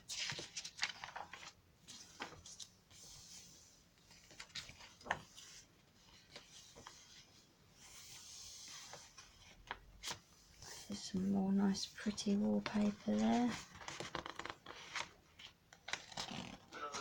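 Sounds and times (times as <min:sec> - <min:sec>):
paper pages rustling: 0:00.0 - 0:17.0.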